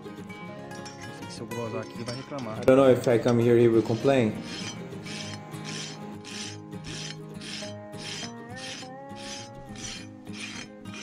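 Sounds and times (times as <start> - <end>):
rasp filing a hoof: 1.8 - 11.0.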